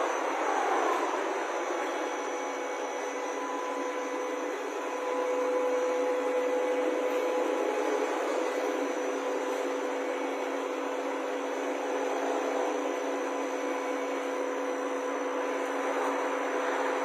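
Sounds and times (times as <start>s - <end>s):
lathe whirring: 0.0s - 17.0s.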